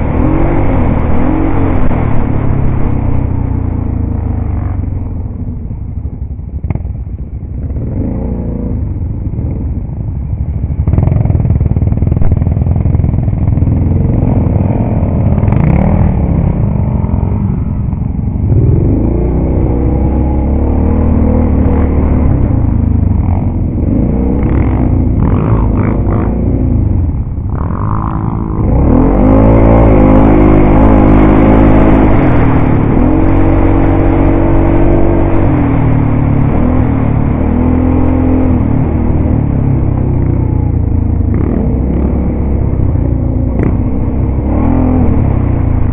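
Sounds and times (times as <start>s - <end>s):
atv engine revving: 0.0s - 5.6s, 7.6s - 9.7s, 10.8s - 45.9s.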